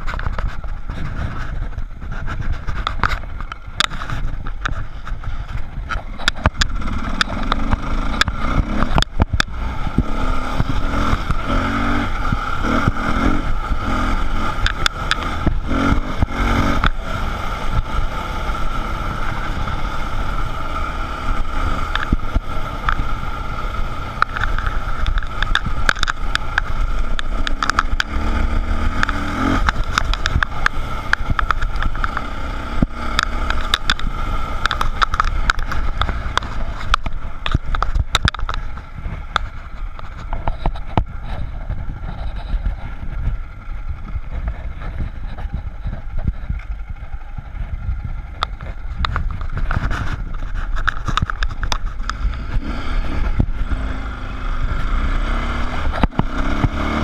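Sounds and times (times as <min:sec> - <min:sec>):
dirt bike engine running: 0:00.0 - 0:57.0
wind noise: 0:00.0 - 0:57.0.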